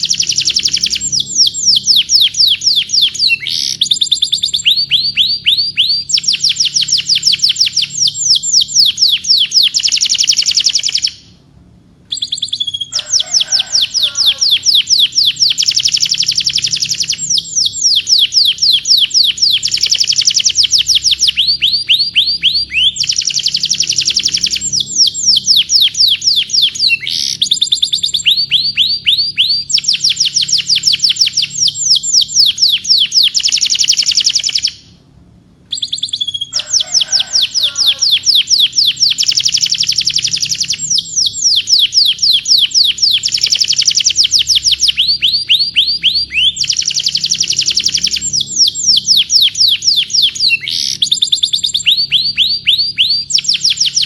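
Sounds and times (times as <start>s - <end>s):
canary singing trills: 0.0s - 11.4s, 12.1s - 35.0s, 35.7s - 54.0s.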